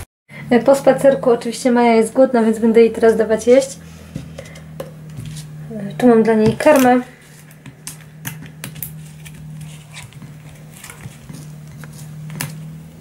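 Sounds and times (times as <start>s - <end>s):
steady low hum: 0.3s - 13.0s.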